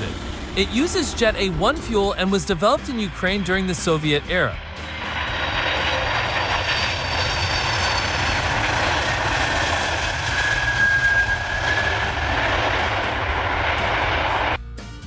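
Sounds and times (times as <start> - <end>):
high whine: 0.0 - 14.6
jet engine roar: 0.0 - 14.6.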